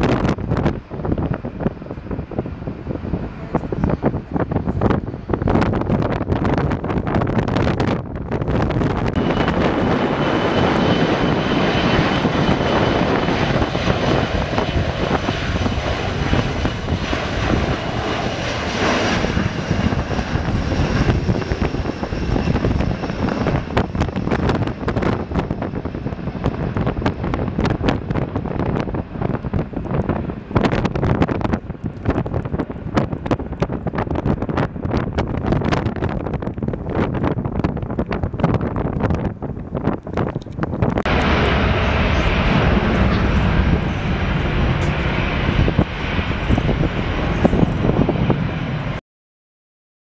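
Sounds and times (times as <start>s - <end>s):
jet engines at takeoff thrust: 0.0s - 49.0s
wind buffeting microphone: 0.0s - 49.0s.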